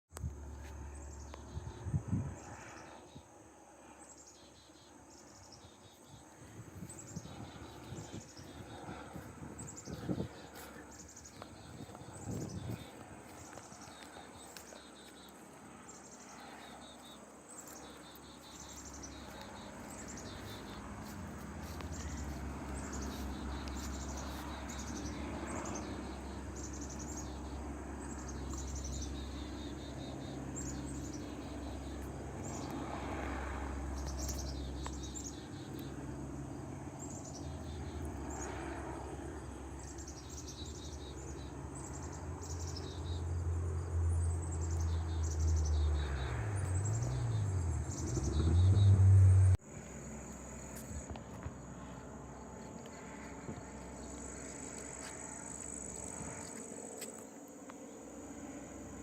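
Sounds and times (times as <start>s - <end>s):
small birds chirping: 0.5s - 36.2s, 37.0s - 43.4s, 44.2s - 49.6s.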